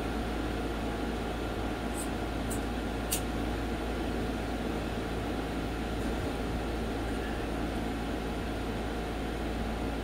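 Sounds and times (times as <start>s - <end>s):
room hum and hiss: 0.0s - 10.0s.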